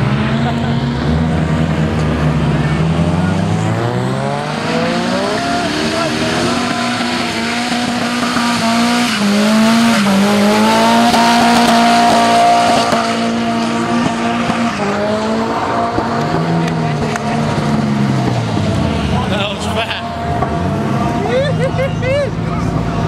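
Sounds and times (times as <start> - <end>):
car engine at high revs: 0.0 - 23.0
spinning tyres squealing: 1.0 - 23.0.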